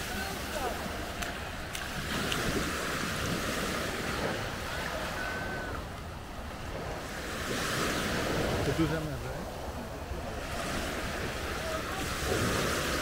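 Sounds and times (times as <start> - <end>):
small waves washing onto sand: 0.0 - 13.0
wind rumbling on microphone: 0.0 - 13.0.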